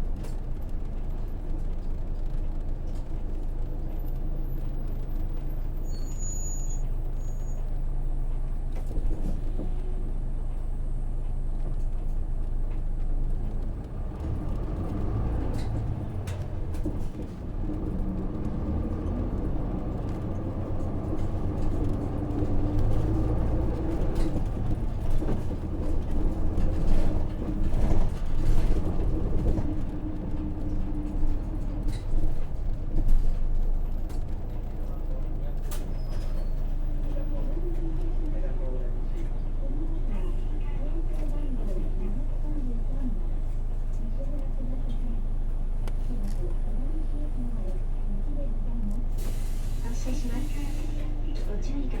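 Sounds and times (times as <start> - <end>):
bus diesel engine drone: 0.0 - 52.0.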